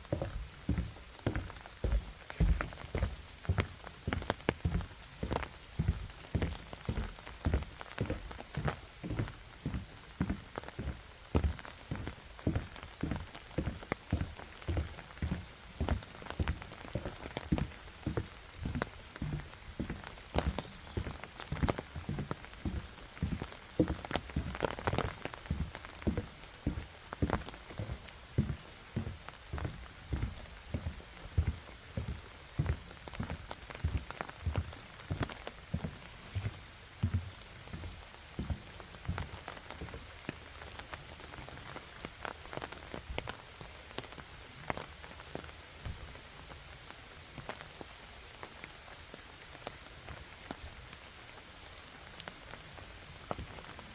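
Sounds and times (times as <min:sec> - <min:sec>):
raindrops tapping: 0:00.0 - 0:47.9
faint rain hiss: 0:00.0 - 0:53.9.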